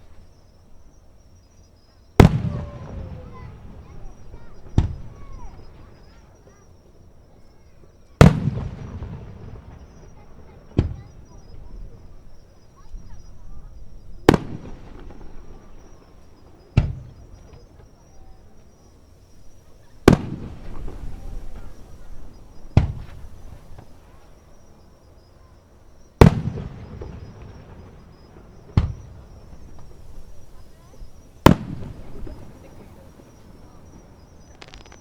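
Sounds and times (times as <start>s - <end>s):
fireworks booming: 2.2s - 6.7s, 7.5s - 35.0s.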